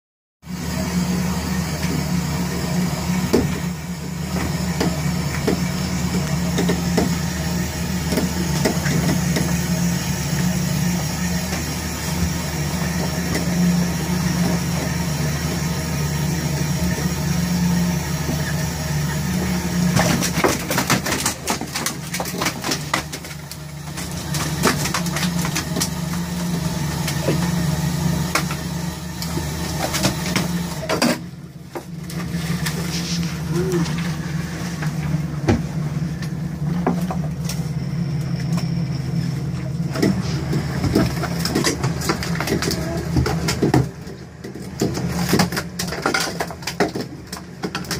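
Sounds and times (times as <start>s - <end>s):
boat engine droning: 0.4s - 47.9s.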